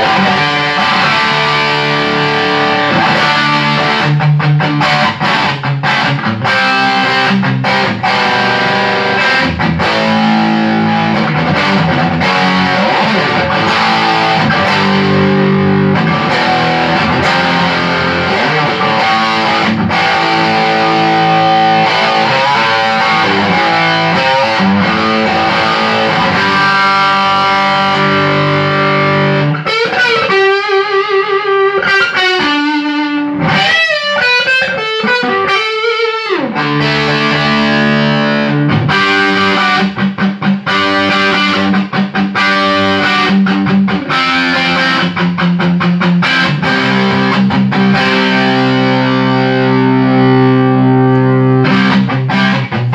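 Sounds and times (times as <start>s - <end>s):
distorted electric guitar: 0.0s - 52.9s.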